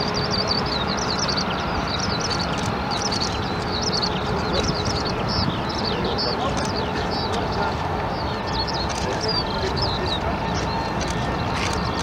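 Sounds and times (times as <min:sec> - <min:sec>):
jet engines roaring: 0:00.0 - 0:12.0
small birds chirping: 0:00.0 - 0:12.0.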